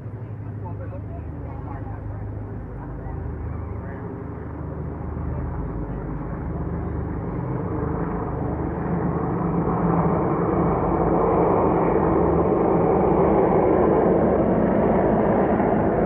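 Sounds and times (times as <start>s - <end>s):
plane flying over: 0.0s - 16.0s.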